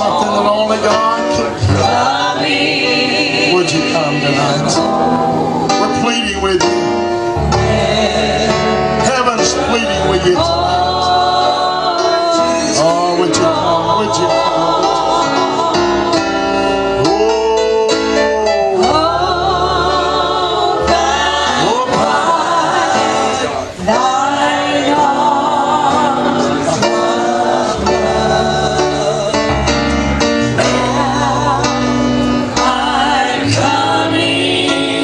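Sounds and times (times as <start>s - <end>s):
bass line: 0.0s - 35.0s
person singing with vibrato: 0.0s - 35.0s
sustained instrumental chords: 0.0s - 35.0s.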